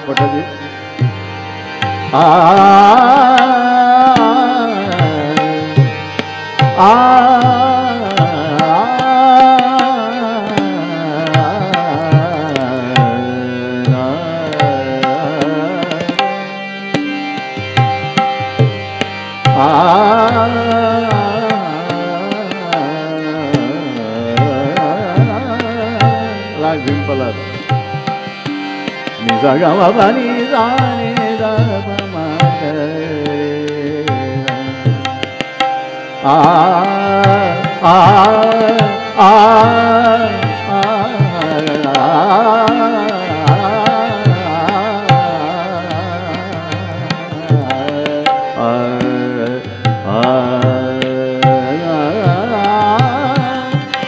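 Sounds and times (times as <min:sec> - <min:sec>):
man singing ornamented phrases: 0:00.0 - 0:00.8, 0:02.0 - 0:16.6, 0:19.4 - 0:35.2, 0:36.2 - 0:54.0
harmonium accompaniment: 0:00.0 - 0:54.0
tabla strokes: 0:00.0 - 0:54.0.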